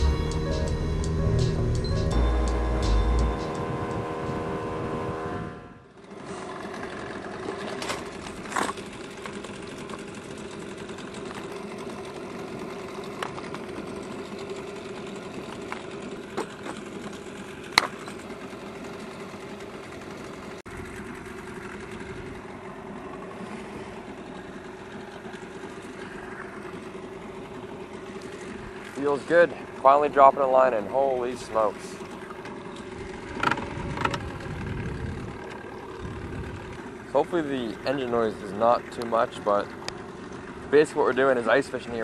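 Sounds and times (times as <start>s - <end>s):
outboard motor idling: 0.0s - 42.0s.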